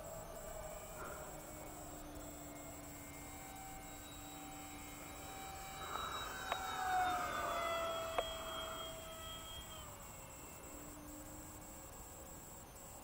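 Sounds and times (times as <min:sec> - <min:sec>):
rc jet ducted fans whining: 0:00.0 - 0:13.0.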